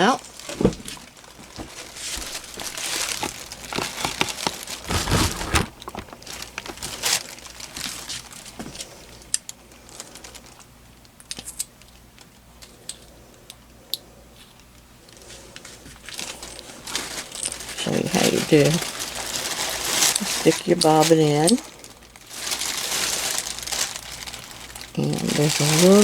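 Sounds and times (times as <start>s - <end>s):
rustling and crinkling handling: 0.0s - 10.7s, 14.4s - 26.0s.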